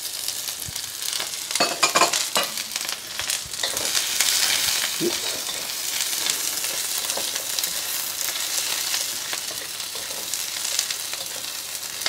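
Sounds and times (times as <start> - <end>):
onions sizzling in hot oil: 0.0 - 12.0
spatula scraping and tapping wok: 1.6 - 12.0.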